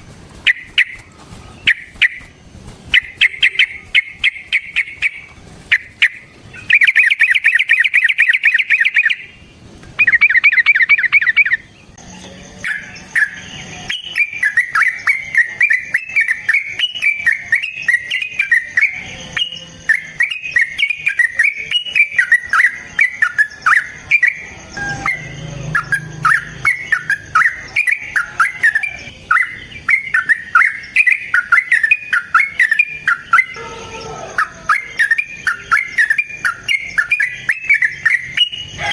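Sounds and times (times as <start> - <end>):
bird singing chattering trills: 0.4 - 38.9.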